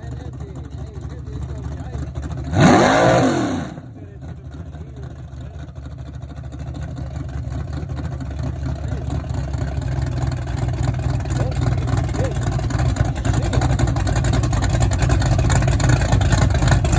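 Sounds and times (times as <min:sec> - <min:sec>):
car engine pulsing exhaust: 0:00.0 - 0:16.9.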